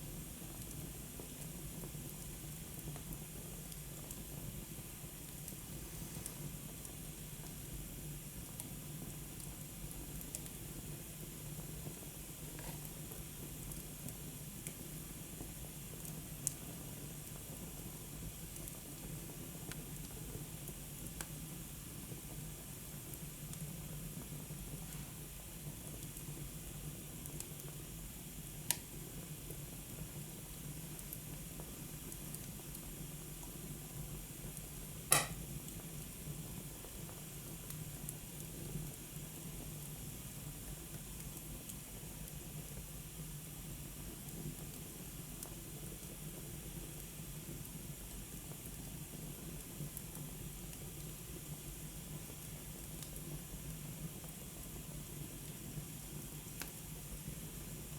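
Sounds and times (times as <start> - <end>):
wood fire hissing and crackling: 0.0 - 57.9.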